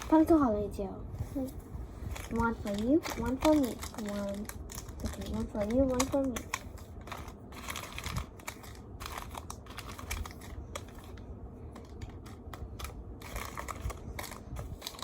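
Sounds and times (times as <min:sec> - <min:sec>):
wrapping crinkling: 0:01.4 - 0:15.0.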